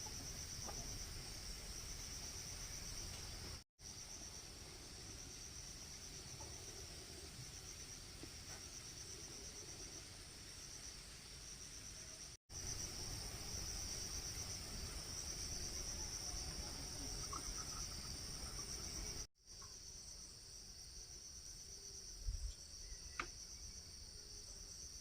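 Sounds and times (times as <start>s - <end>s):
insects chorus pulsing: 0.0s - 25.0s.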